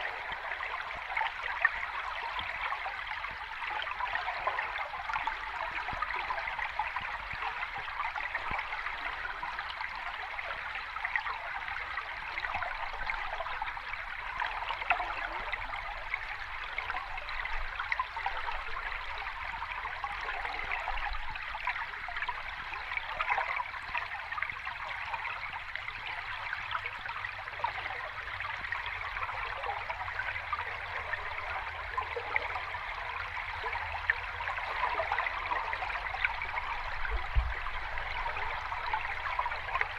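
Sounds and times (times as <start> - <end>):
water rushing and bubbling: 0.0 - 39.9.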